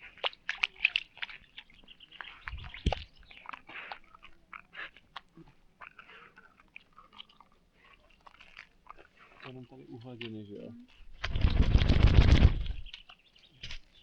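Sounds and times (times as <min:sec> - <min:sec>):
crunching and clicking: 0:00.0 - 0:14.0.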